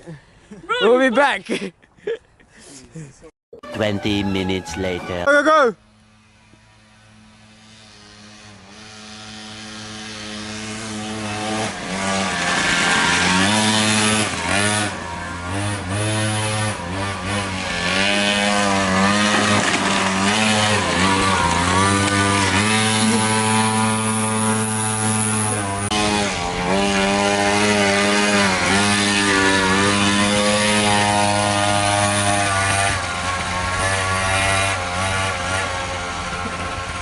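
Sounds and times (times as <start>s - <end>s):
mini motorbike engine buzzing: 4.3s - 37.0s.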